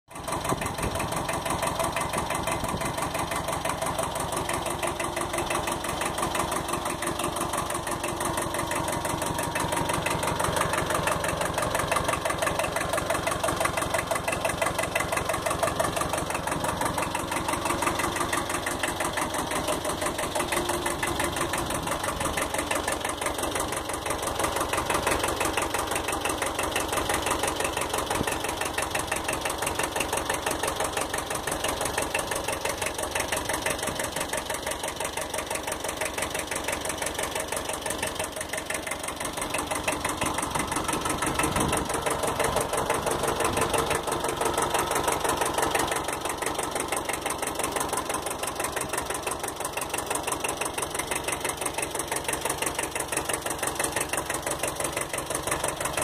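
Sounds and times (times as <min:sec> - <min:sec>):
tractor diesel engine idling: 0:00.1 - 0:56.0.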